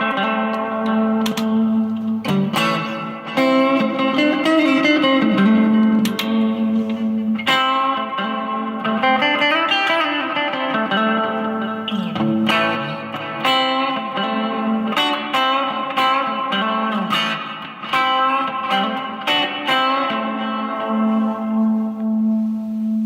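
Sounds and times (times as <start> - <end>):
overdriven electric guitar: 0.0 - 23.0.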